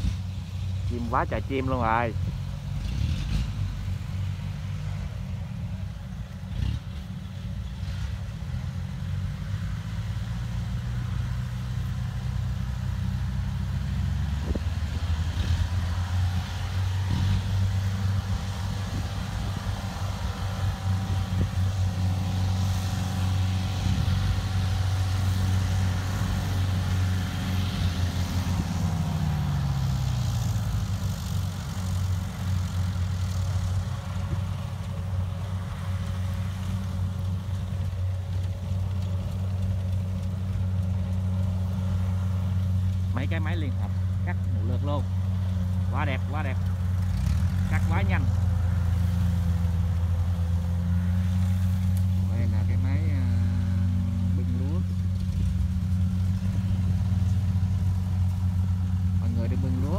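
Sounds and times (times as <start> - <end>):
combine harvester engines humming: 0.0 - 59.9.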